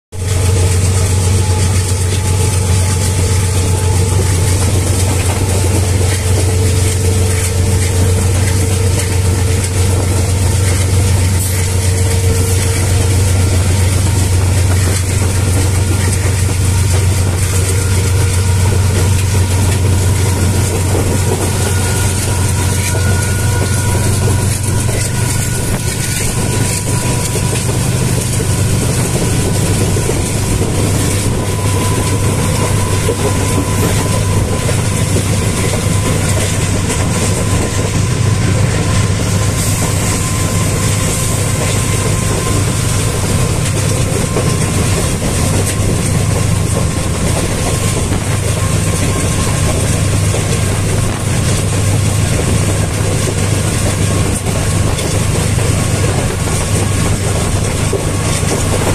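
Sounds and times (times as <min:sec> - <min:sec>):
moving train drone: 0:00.2 - 0:58.9.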